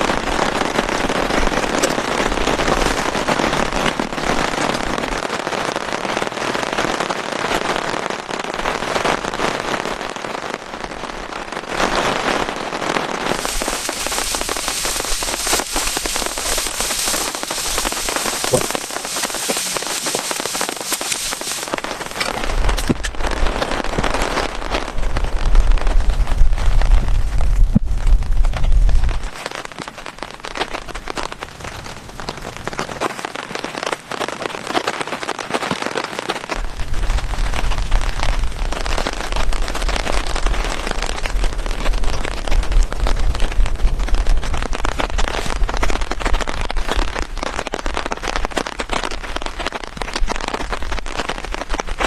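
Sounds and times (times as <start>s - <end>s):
heavy rain pattering: 0.0s - 52.0s.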